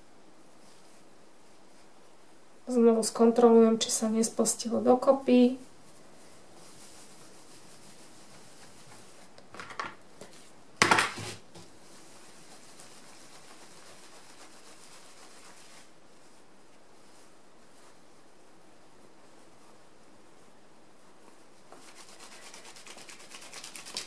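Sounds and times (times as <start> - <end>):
felt rustling: 0.4 - 9.5, 11.3 - 24.0
hands rubbing wet felt: 0.5 - 10.6, 11.2 - 24.0.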